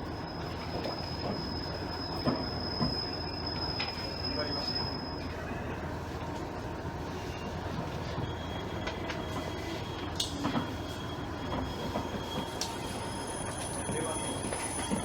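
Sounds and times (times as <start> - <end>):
wheels and brakes squealing: 0.0 - 6.0, 7.0 - 15.0
railcar low rumble: 0.0 - 15.0.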